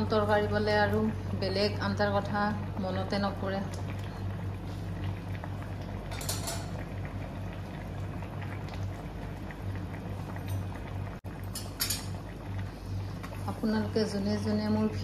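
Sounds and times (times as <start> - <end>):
curry bubbling at a boil: 0.0 - 15.0
low steady hum: 0.0 - 15.0.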